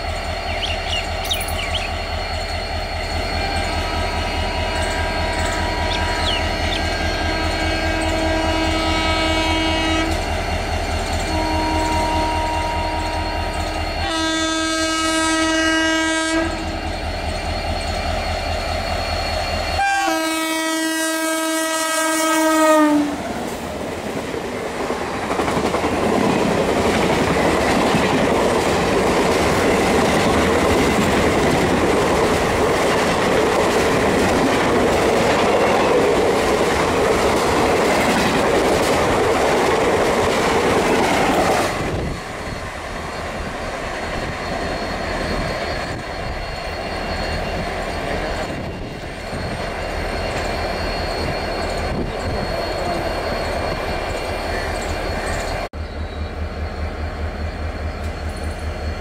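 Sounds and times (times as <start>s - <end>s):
train wheels rolling on track: 0.0s - 59.0s.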